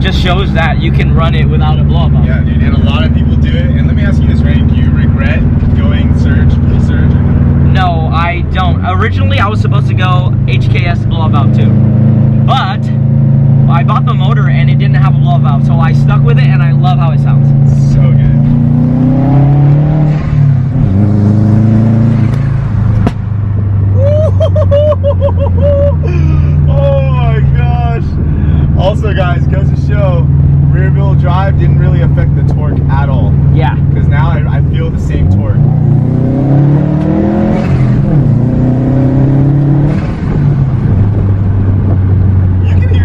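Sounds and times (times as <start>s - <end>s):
turbocharged car engine running: 0.0s - 43.0s.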